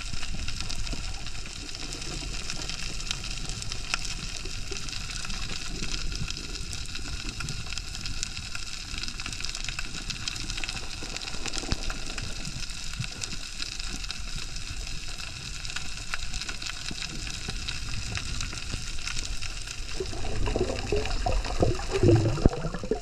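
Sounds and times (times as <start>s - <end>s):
low rumble of moving water: 0.0s - 23.0s.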